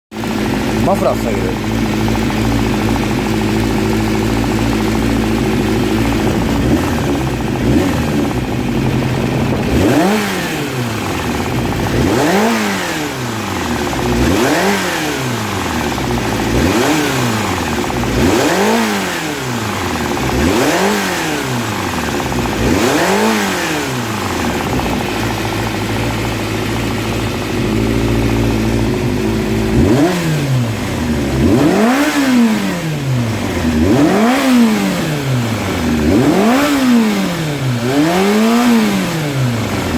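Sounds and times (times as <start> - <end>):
motorcycle engine idling and revving: 0.1 - 39.9.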